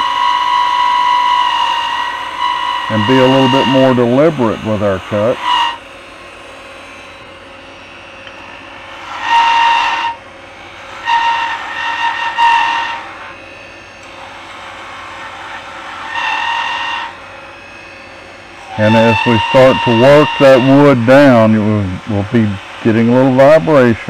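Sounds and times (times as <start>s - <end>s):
lathe humming: 0.0s - 24.0s
lathe tool cutting wood whine: 0.0s - 24.0s.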